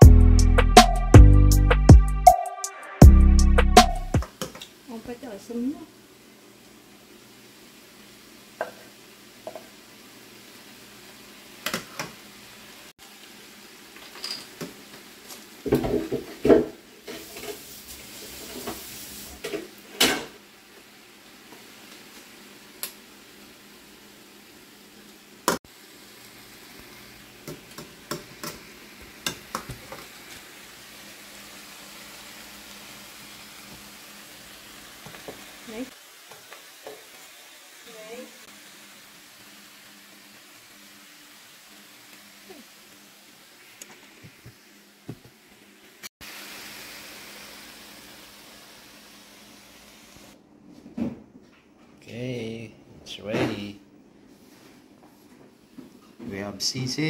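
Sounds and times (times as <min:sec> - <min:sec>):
food sizzling in a pan: 0:03.9 - 0:50.4.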